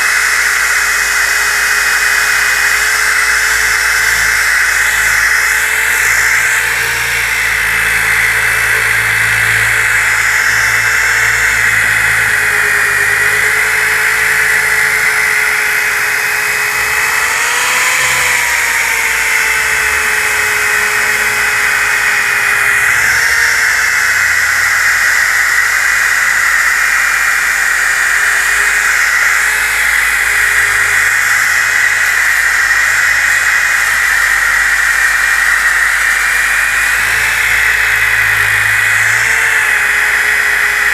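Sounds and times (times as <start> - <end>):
disc sander whining: 0.0 - 40.9.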